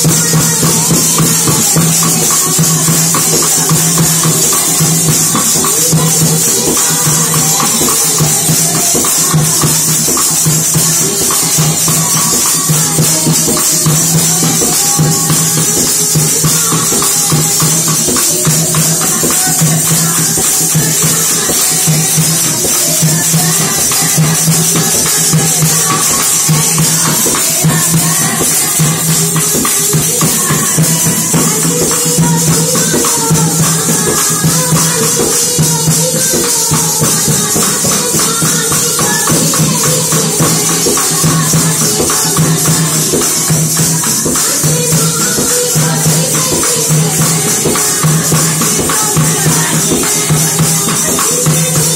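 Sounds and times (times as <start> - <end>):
group singing: 0.0 - 51.9
jingling hand percussion: 0.0 - 51.9.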